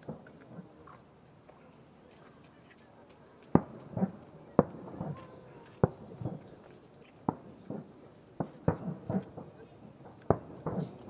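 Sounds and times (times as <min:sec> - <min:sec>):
dull fireworks booms: 0:00.0 - 0:01.4, 0:03.4 - 0:11.0
fireworks bursting with sharp bangs: 0:00.0 - 0:02.6, 0:03.4 - 0:11.0.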